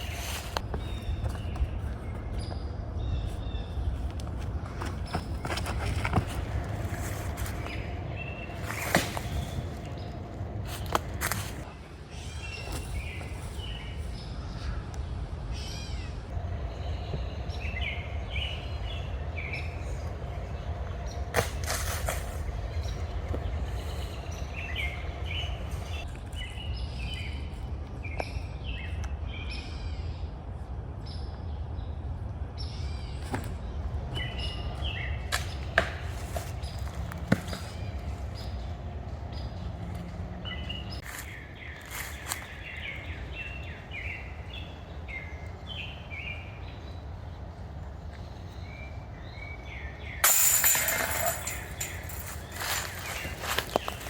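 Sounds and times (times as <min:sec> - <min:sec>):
steady low rumble: 0:00.0 - 0:12.2, 0:12.8 - 0:54.0
small birds chirping: 0:00.0 - 0:54.0.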